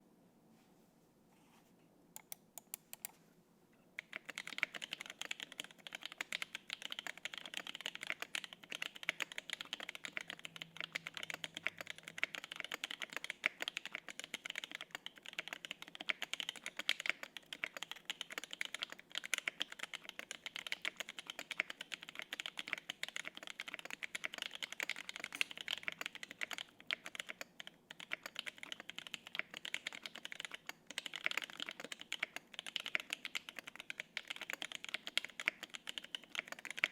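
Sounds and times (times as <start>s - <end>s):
mechanical keyboard typing: 4.0s - 36.9s.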